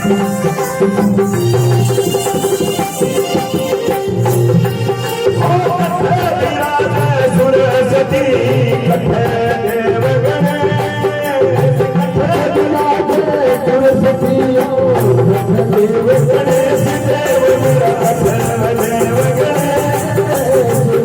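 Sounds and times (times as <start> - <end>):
drums and hand percussion: 0.0 - 21.0.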